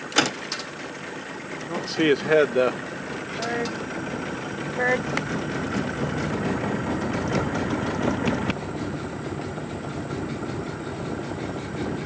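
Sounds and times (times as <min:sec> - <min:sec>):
outboard motor rumbling: 0:00.0 - 0:12.0.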